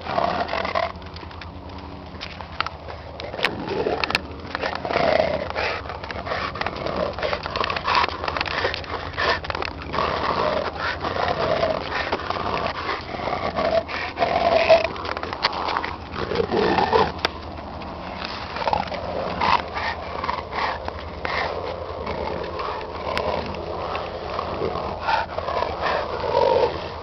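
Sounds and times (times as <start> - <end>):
dogs vocalizing: 0.0 - 27.0
steady low hum: 0.0 - 27.0.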